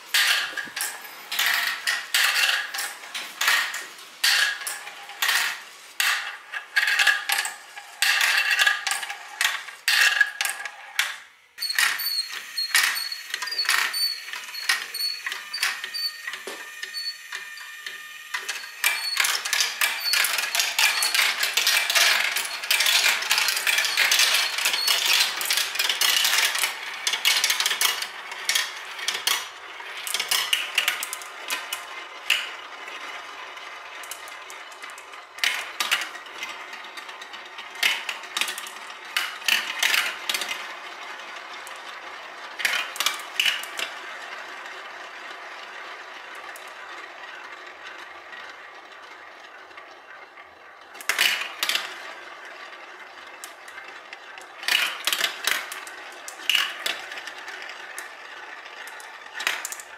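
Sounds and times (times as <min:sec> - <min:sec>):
marbles clattering down plastic track: 0:00.0 - 0:59.9.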